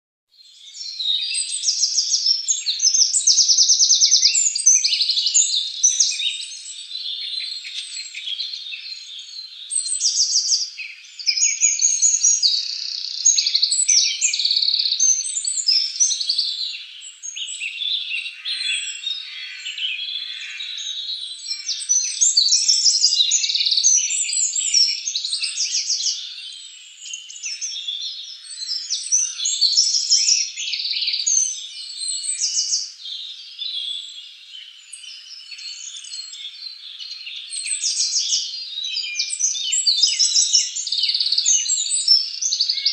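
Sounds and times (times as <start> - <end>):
small birds chirping and twittering: 0.3 - 42.9.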